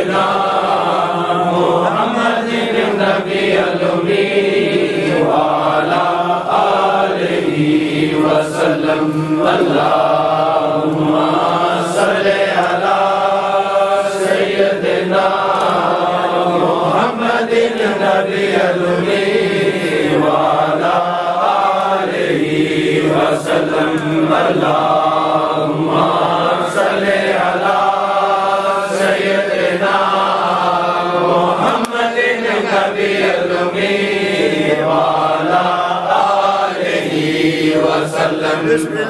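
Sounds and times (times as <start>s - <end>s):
men chanting in unison: 0.0s - 39.0s.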